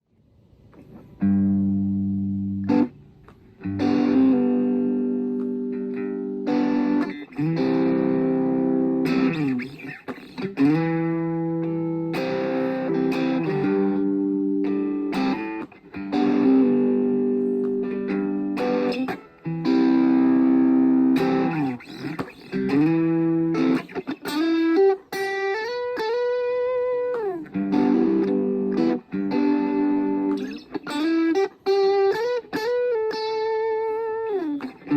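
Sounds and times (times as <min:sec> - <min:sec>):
guitar chords: 0:00.4 - 0:34.9
sliding guitar notes: 0:00.8 - 0:34.9.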